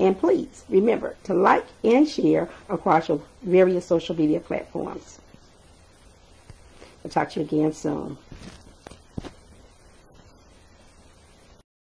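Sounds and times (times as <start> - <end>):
steady low hiss: 0.0 - 11.6.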